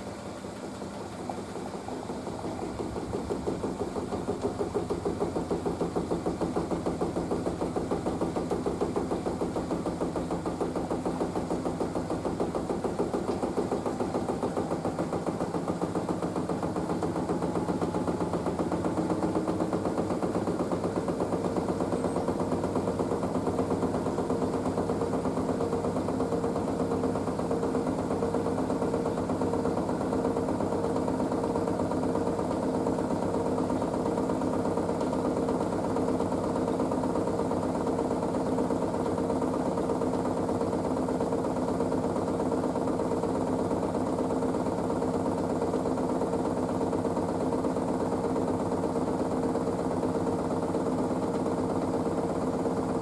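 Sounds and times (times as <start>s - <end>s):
fine fast rattle: 0.0s - 53.0s
washing machine humming: 0.0s - 53.0s.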